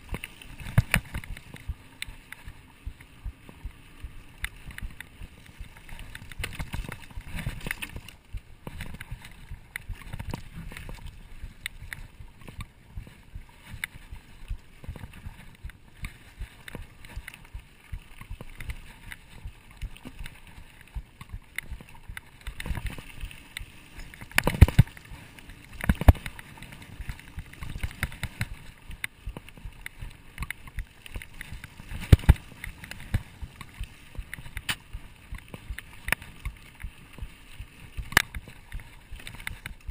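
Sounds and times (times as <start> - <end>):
bike tyres rattling on dirt: 0.0 - 39.9.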